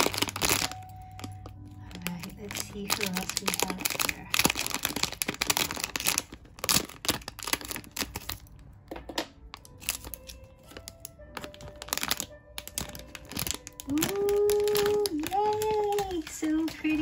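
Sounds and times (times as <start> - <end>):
foil bag crinkling: 0.0 - 8.6, 9.5 - 17.0.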